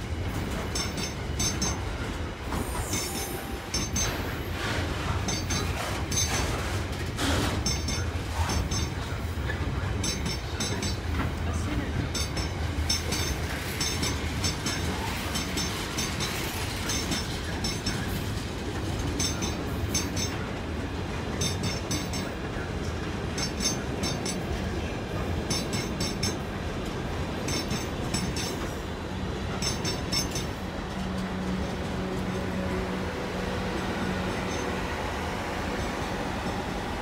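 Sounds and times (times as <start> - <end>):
freight train rumbling past: 0.0 - 37.0
second train humming: 0.0 - 37.0
train wheels clicking on rail joints: 0.0 - 37.0.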